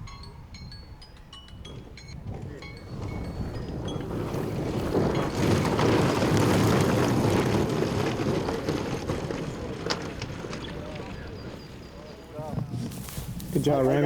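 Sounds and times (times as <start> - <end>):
model aircraft engines rushing: 1.6 - 14.0.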